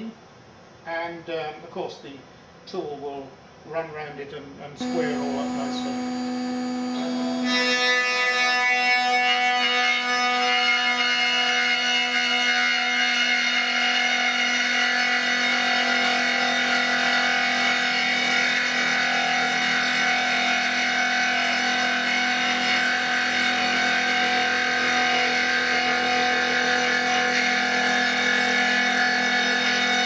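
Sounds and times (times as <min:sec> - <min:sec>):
router spindle whine: 0:04.8 - 0:30.0.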